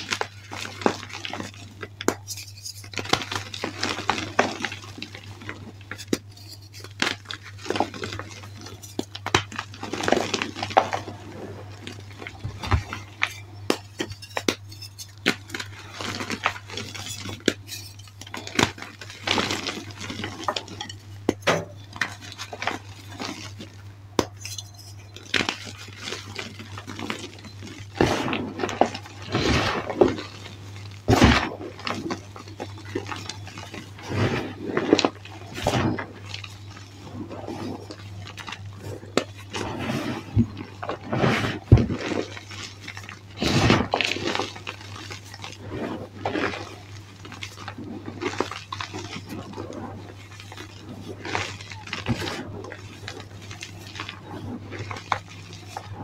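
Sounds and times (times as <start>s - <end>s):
chalk crunching: 0.0s - 56.0s.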